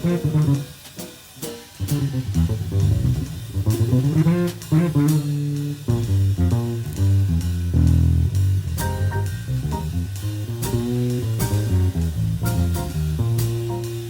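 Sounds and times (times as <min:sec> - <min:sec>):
bass: 0:00.0 - 0:14.0
drum kit: 0:00.0 - 0:14.0.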